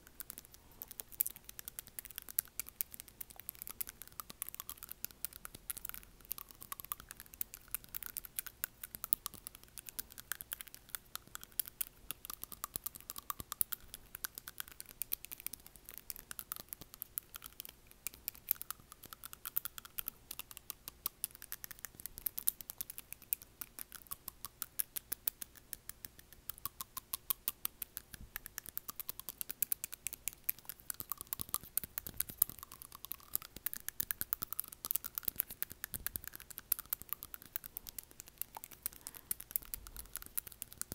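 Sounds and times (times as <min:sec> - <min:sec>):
fingernails tapping on teeth: 0:00.0 - 0:40.9.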